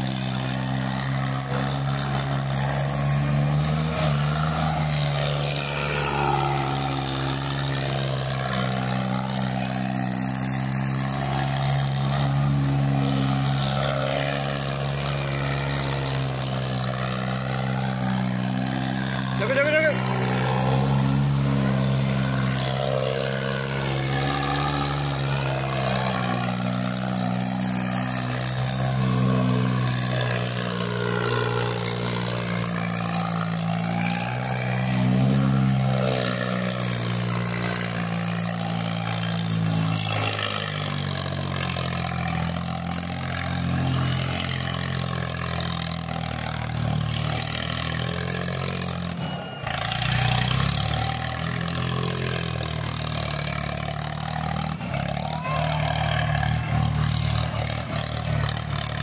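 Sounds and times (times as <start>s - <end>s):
diesel tractor engine revving: 0.0s - 59.0s.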